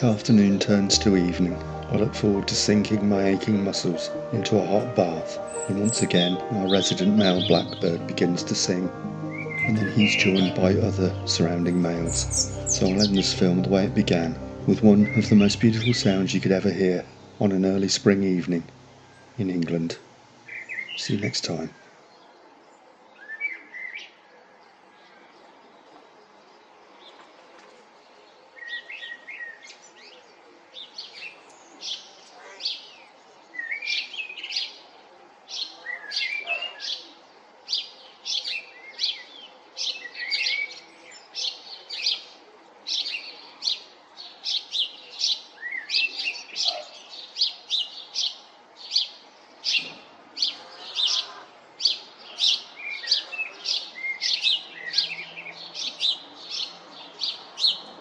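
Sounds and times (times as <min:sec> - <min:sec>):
blackbirds singing: 0:00.0 - 0:19.7, 0:20.5 - 0:22.4, 0:23.2 - 0:25.2, 0:28.4 - 0:34.9, 0:35.5 - 0:58.0.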